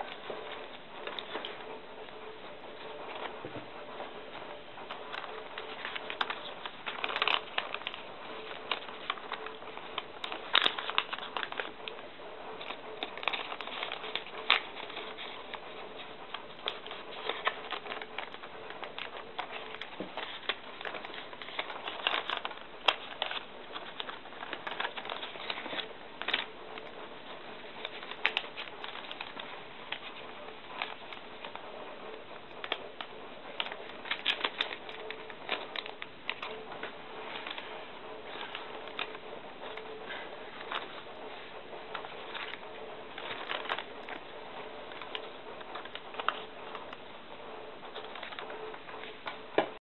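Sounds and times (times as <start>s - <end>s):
thin paper crinkling: 0.0s - 49.8s.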